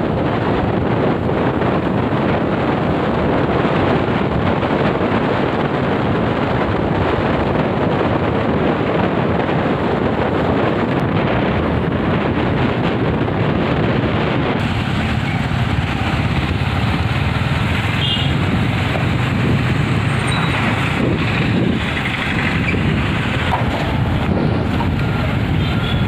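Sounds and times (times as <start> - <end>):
motorbike running: 0.0 - 26.0
road traffic: 0.0 - 26.0
wind rush on microphone: 0.0 - 26.0.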